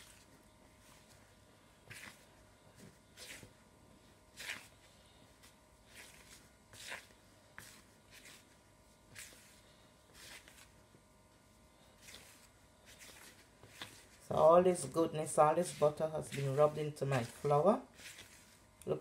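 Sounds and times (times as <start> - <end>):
fingers rubbing flour in bowl: 0.0 - 19.0.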